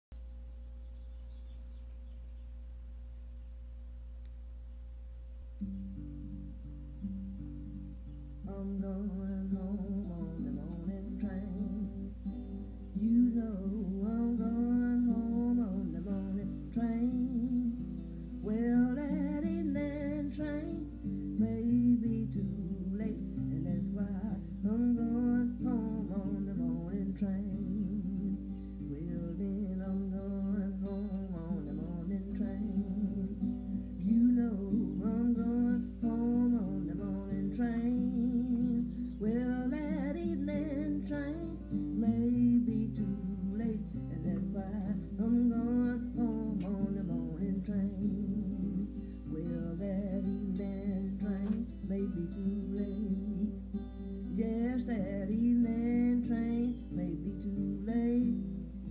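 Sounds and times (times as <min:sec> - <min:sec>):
acoustic blues guitar from record: 0:05.4 - 0:58.9.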